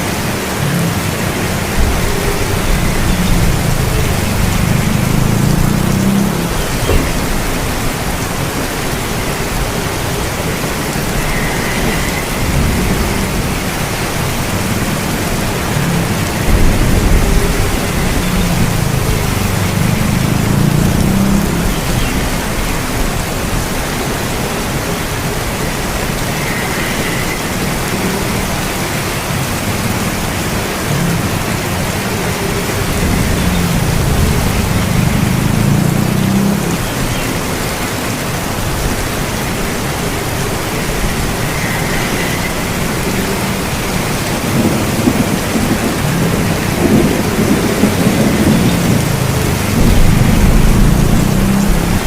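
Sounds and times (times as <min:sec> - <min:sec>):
steady rain: 0:00.0 - 0:52.0
low rolling thunder: 0:01.2 - 0:28.0, 0:32.6 - 0:36.8, 0:38.6 - 0:52.0.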